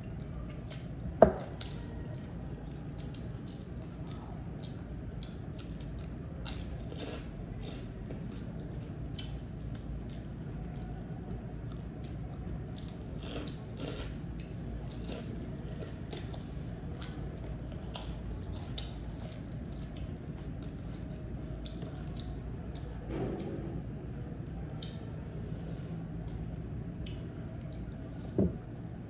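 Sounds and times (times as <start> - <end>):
crunching and chewing: 0.0 - 29.0
steady low hum: 0.0 - 29.0.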